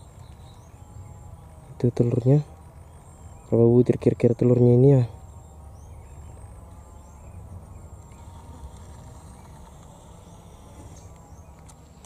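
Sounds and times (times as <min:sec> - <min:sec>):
low steady forest rumble: 0:00.0 - 0:12.0.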